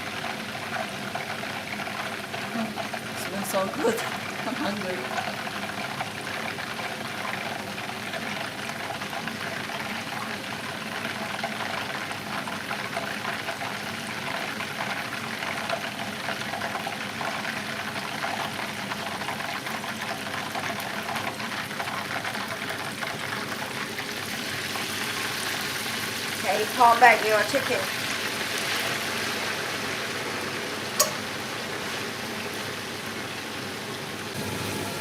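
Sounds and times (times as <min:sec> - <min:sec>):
frying oil sizzling and crackling: 0:00.0 - 0:35.0.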